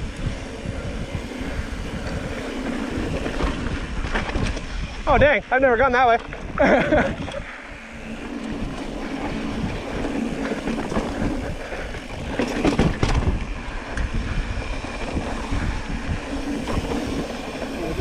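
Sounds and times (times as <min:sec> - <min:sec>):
bike rattling: 0:00.0 - 0:18.0
wind noise on microphone: 0:00.0 - 0:18.0.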